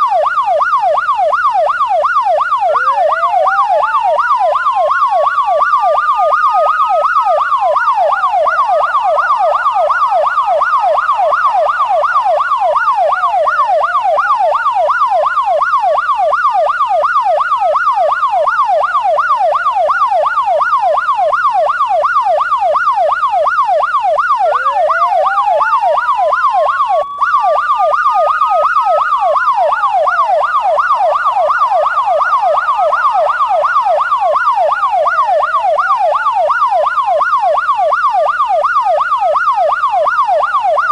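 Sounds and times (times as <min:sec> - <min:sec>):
electronic siren yelp and wail: 0:00.0 - 0:40.9.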